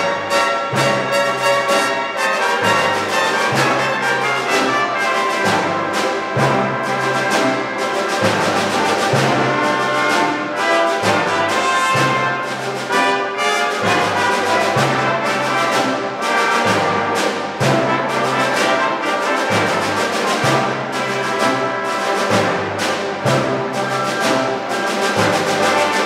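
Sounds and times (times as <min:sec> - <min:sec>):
orchestra brass section: 0:00.0 - 0:26.0
strings: 0:00.0 - 0:26.0.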